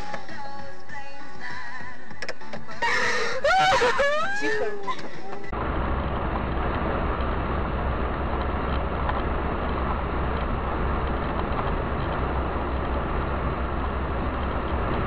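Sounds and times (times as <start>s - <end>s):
car road and engine noise: 0.0s - 0.6s, 2.0s - 15.0s.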